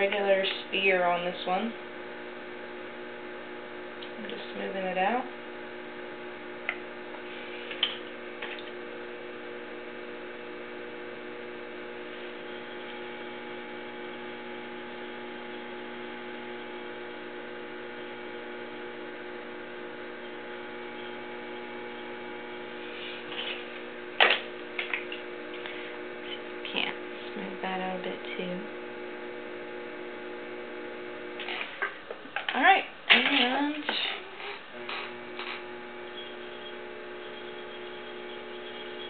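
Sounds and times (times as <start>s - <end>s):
potter's wheel motor humming: 0.0s - 39.0s.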